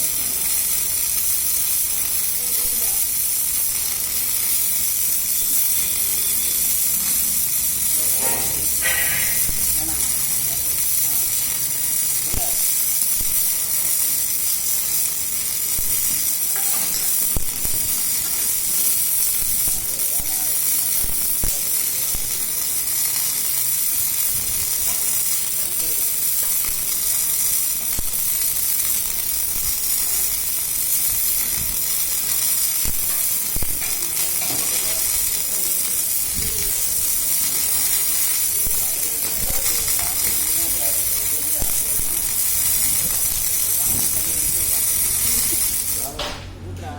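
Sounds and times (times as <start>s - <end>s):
welding arc crackling: 0.0s - 46.6s.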